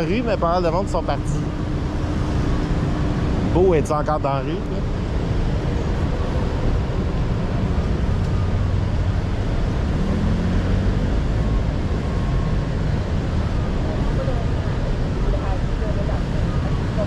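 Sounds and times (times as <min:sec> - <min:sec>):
car engines in traffic: 0:00.0 - 0:17.0.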